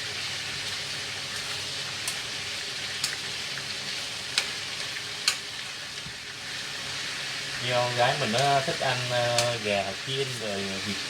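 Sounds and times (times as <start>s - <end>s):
meat frying in hot oil: 0.0s - 11.0s.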